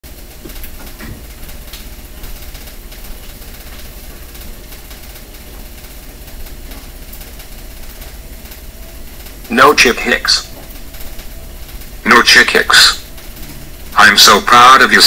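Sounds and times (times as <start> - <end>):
low hum: 0.0 - 15.0
even hiss: 2.9 - 15.0.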